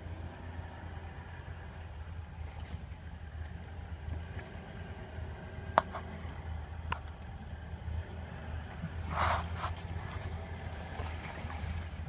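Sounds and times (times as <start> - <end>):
suv engine running at low revs: 0.0 - 12.0.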